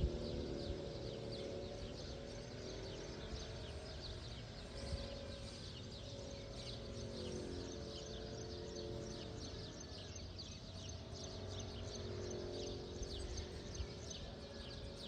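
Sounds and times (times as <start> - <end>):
birds chirping rapidly: 0.0 - 15.0
low steady drone: 0.0 - 15.0.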